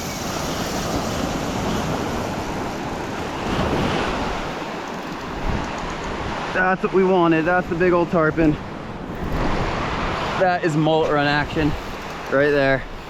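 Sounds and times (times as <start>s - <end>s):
wind buffeting microphone: 0.0s - 10.5s
ocean surf breaking on beach: 0.0s - 13.0s.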